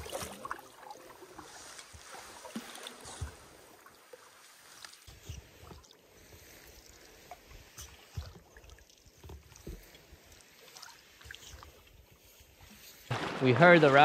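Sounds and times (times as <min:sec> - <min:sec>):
paddle dipping and dripping water: 0:00.0 - 0:14.0.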